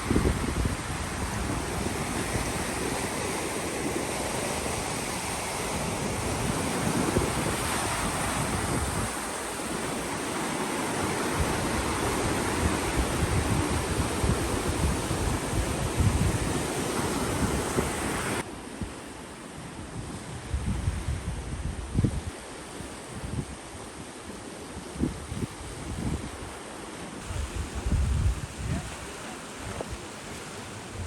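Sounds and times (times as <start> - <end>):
wind buffeting microphone: 0.0 - 19.0, 19.9 - 23.9, 24.7 - 26.6, 27.2 - 31.0
ocean surf rushing: 0.0 - 31.0.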